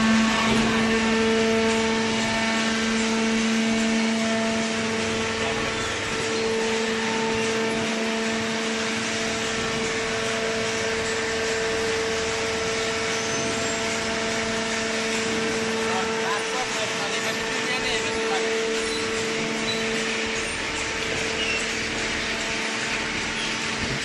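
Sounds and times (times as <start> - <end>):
hydraulic motor and pump humming: 0.0 - 24.0.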